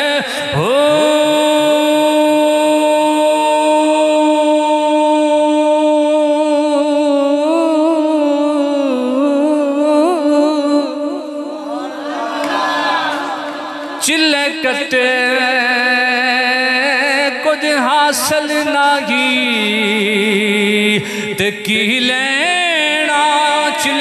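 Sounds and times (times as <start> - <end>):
man chanting: 0.0 - 11.9, 13.9 - 24.0.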